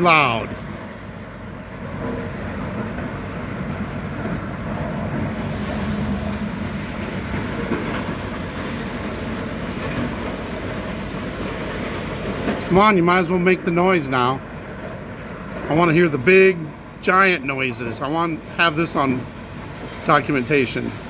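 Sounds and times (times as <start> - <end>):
loud mechanical rumble: 0.0 - 21.0.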